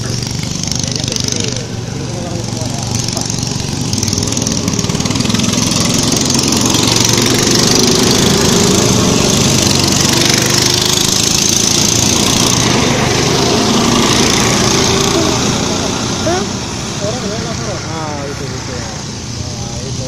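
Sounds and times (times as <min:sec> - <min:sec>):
go-kart engine passing: 0:00.0 - 0:20.0.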